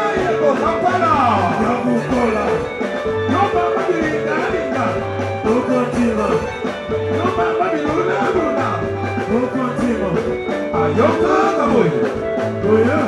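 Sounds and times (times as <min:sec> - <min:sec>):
melodic guitar lines: 0:00.0 - 0:13.0
repeating bass line: 0:00.0 - 0:13.0.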